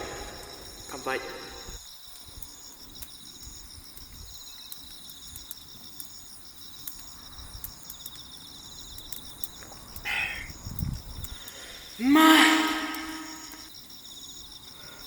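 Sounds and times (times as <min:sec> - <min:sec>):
insects chirping in trills: 0:00.0 - 0:15.0.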